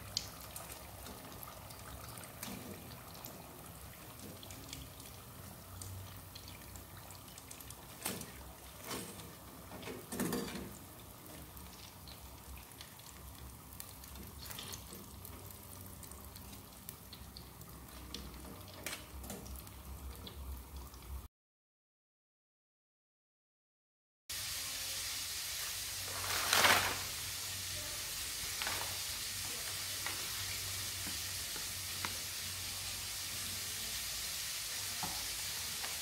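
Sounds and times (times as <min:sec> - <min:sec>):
hot oil dripping and trickling: 0:00.0 - 0:21.3, 0:27.0 - 0:36.0
oil crackling faintly: 0:00.0 - 0:21.3, 0:24.3 - 0:36.0.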